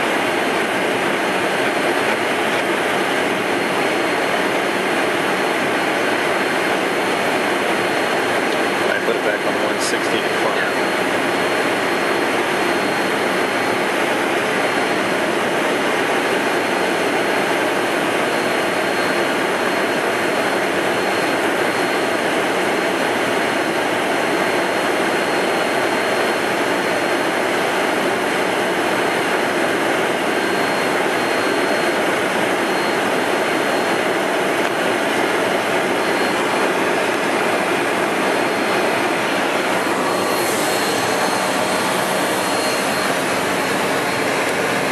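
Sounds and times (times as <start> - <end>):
jet engines running: 0.0 - 44.9
thin high whine: 0.0 - 44.9.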